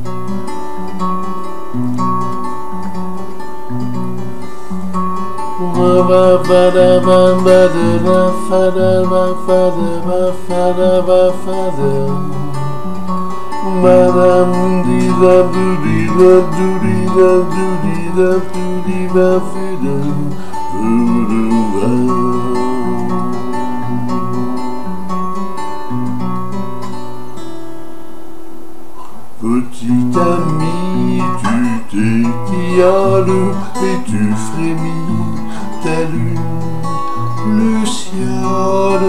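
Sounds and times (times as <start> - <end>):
acoustic guitar picked and strummed: 0.0 - 39.0.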